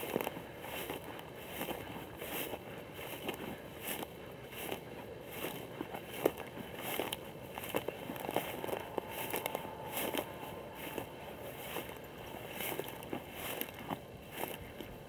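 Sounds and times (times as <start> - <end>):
footsteps crunching through dry grass: 0.0 - 15.0.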